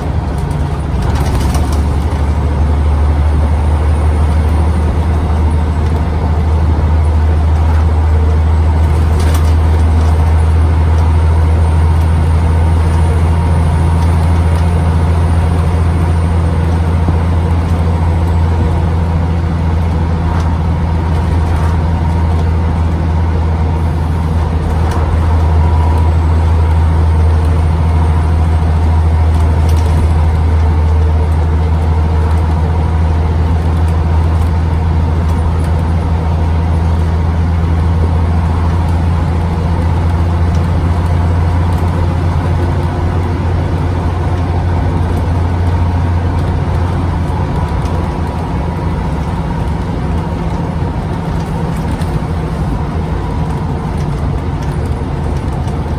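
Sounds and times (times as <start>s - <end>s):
bus diesel engine droning: 0.0s - 55.9s.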